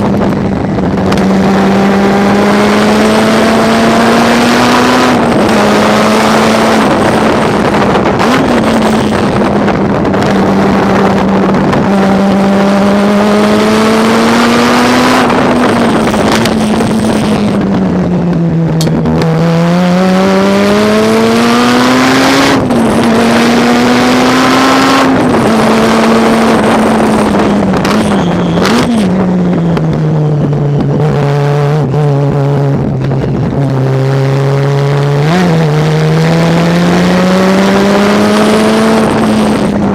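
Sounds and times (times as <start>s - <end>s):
race car engine revving: 0.0s - 39.9s
wind and tyre noise: 0.0s - 39.9s.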